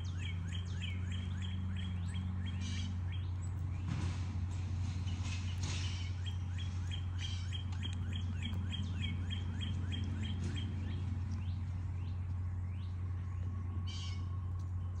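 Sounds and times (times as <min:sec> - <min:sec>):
songbird singing: 0:00.0 - 0:15.0
steady low hum: 0:00.0 - 0:15.0.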